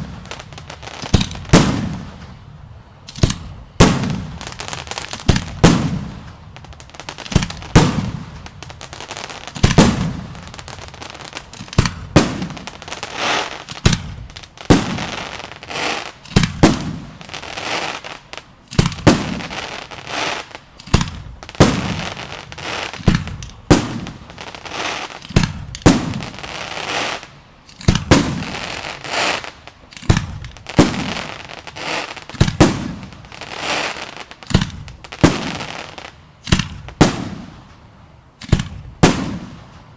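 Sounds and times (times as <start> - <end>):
fireworks bursts with booming echo: 0.0 - 39.9.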